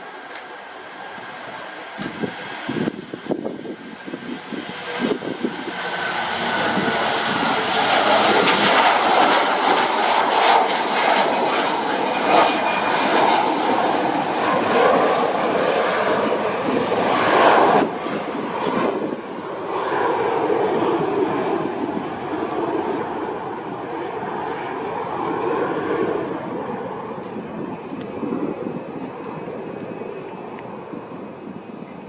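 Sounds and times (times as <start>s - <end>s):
jet engines running: 0.0s - 32.0s.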